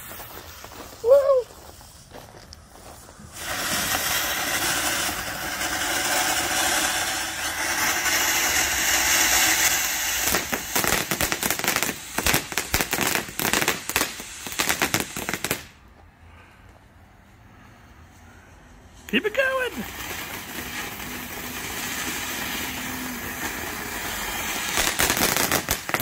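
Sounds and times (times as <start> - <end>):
firework fountain hissing: 0.0 - 16.0, 17.5 - 26.0
sharp firework crackles: 0.0 - 16.0, 17.5 - 26.0.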